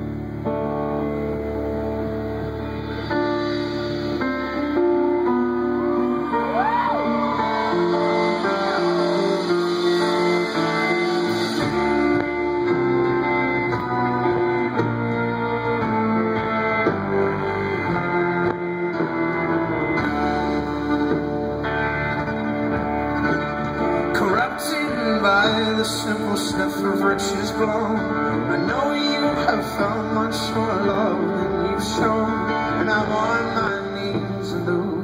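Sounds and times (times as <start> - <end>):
live folk rock band: 0.0 - 35.0.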